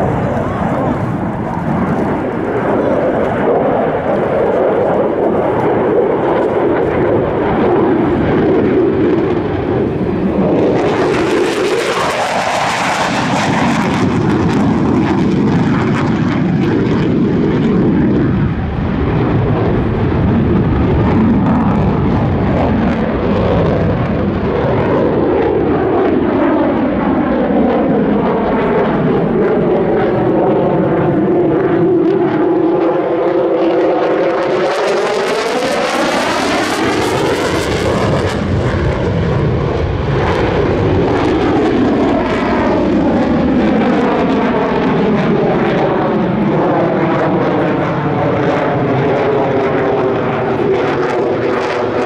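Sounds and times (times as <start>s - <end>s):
jet engine roar: 0.0s - 52.0s.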